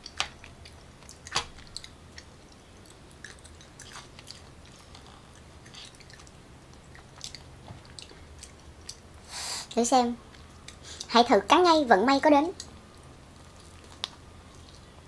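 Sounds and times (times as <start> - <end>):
faint chewing with mouth clicks: 0.0 - 11.2, 12.5 - 15.0
low steady hum: 0.0 - 15.0.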